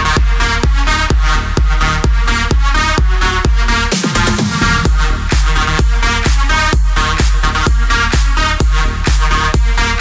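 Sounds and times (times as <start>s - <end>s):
electronic dance music: 0.0s - 10.0s
steady kick drum: 0.0s - 10.0s.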